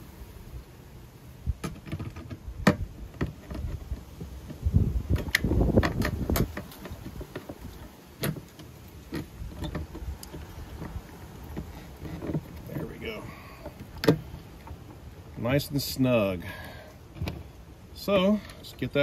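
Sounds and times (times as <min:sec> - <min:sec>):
handling and rubbing: 0:01.6 - 0:19.0.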